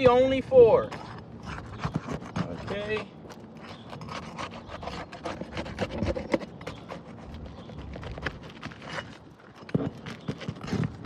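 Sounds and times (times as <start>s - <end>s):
pry tool scraping under shingles: 0.7s - 11.0s.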